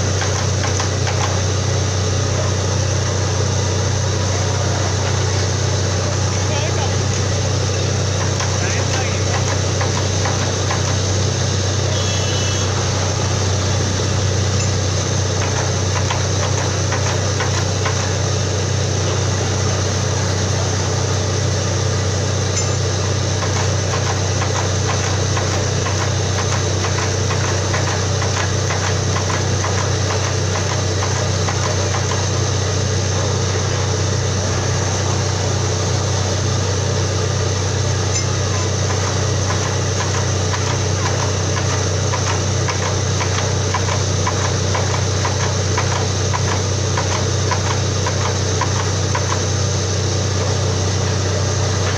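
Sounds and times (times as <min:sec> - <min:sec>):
drilling rig engine droning: 0:00.0 - 0:51.9.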